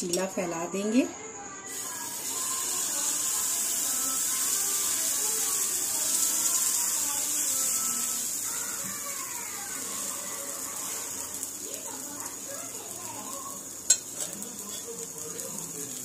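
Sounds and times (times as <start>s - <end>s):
batter sizzling on hot griddle: 1.7s - 16.0s.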